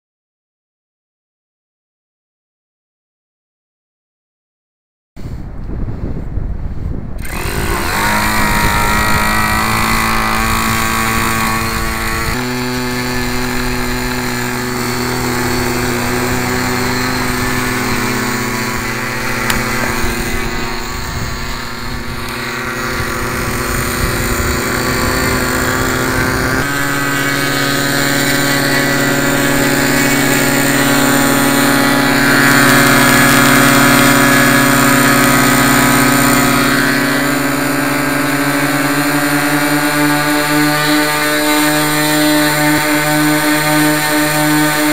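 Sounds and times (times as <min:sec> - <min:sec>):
model plane engines buzzing drone: 0:07.0 - 0:44.9.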